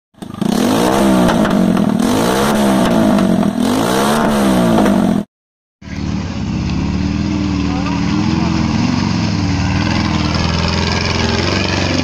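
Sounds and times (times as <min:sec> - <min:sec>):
motorcycle engine revving: 0:00.2 - 0:12.0.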